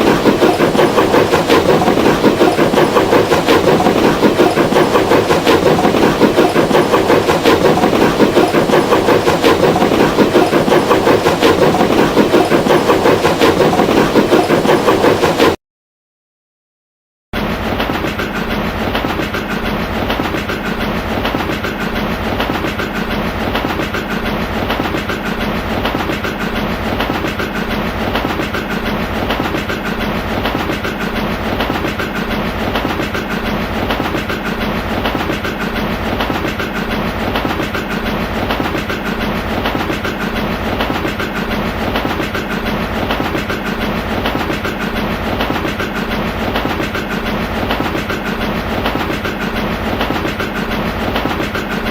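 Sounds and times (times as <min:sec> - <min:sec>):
train clickety-clack on track: 0:00.0 - 0:15.6, 0:17.4 - 0:51.9.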